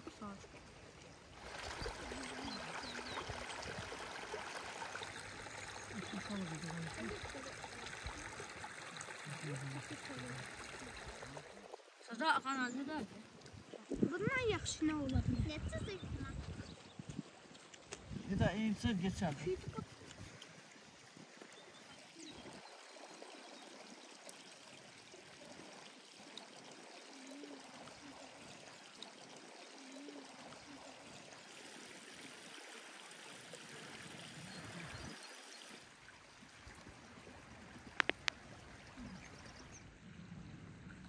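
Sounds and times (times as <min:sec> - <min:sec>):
stream flowing over stones: 0:00.0 - 0:41.0.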